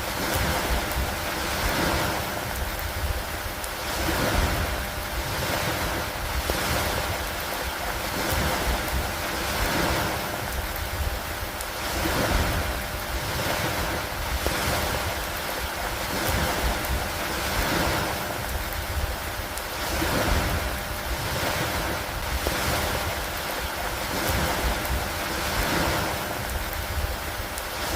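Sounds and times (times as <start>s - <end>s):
rain: 0.0s - 27.9s
wind: 0.0s - 27.9s.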